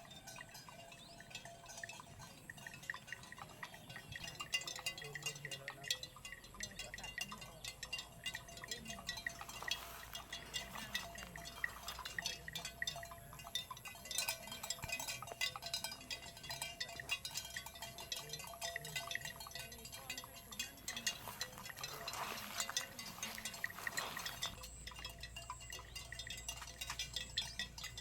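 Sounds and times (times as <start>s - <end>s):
small bells clinking: 0.0s - 28.0s.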